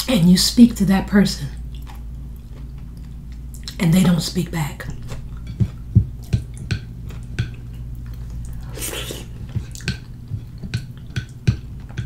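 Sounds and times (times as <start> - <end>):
wet chewing and smacking: 1.6 - 4.2, 4.9 - 12.0.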